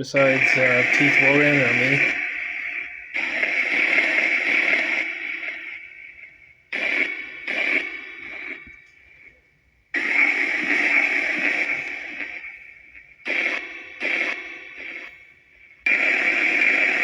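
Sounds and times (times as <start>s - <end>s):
hissy radio-like noise bursts: 0.0s - 17.0s.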